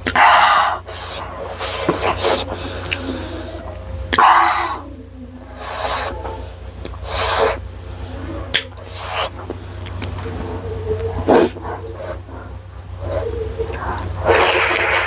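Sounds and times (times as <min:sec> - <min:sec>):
mouth noises and slurps: 0:00.0 - 0:04.7, 0:05.5 - 0:07.6, 0:08.3 - 0:15.0.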